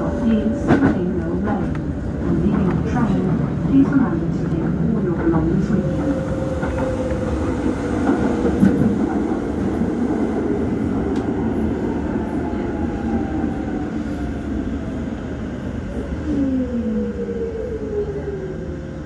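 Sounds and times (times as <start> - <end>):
train wheels rumbling on track: 0.0 - 16.4.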